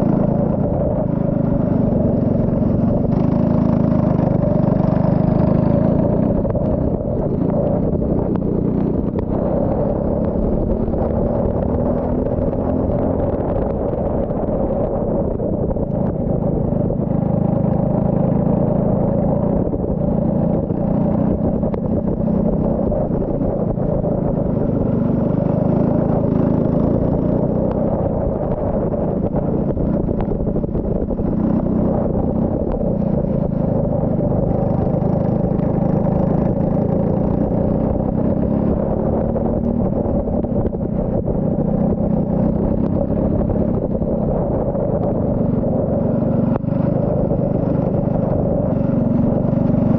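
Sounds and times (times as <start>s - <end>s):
race car engine running hard: 0.0s - 49.9s.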